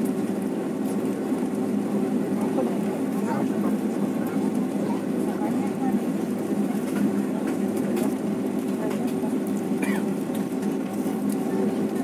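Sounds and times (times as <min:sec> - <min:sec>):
jet engines droning: 0:00.0 - 0:12.0
faint passenger voices: 0:00.8 - 0:12.0.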